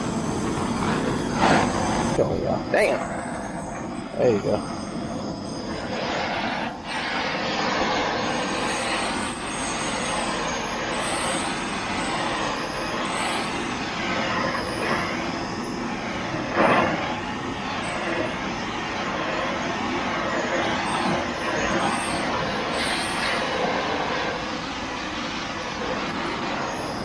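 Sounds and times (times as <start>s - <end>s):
gas torch flame rushing: 0.0s - 27.0s.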